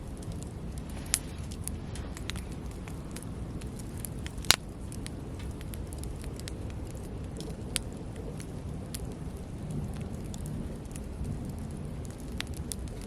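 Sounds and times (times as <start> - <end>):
campfire crackling: 0.0 - 13.0
fire pops: 0.0 - 13.0
low rustle of flame: 0.0 - 13.0.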